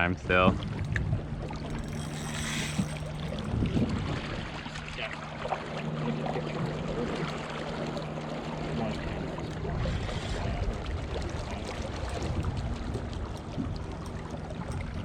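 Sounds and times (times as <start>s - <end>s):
water around a boat: 0.0s - 15.0s
wind: 0.0s - 15.0s.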